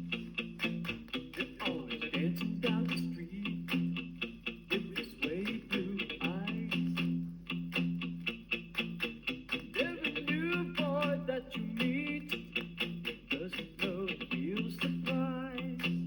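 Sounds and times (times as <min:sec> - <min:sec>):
guitar-led rock music from vinyl: 0:00.0 - 0:16.0.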